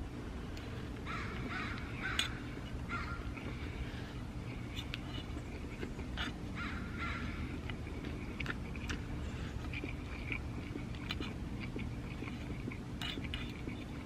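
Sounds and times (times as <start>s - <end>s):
person chewing: 0.5s - 14.0s.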